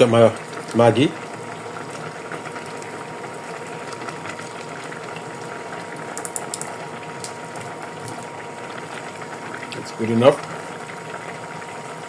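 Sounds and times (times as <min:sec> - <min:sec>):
pot simmering with bubbling hiss: 0:00.0 - 0:12.0.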